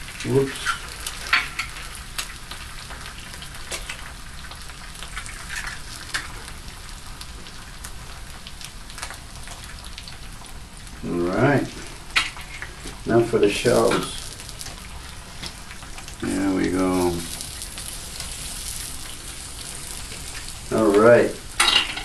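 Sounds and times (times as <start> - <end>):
eggs and bacon sizzling: 0.0 - 22.0
sharp crackles and pops: 0.0 - 22.0.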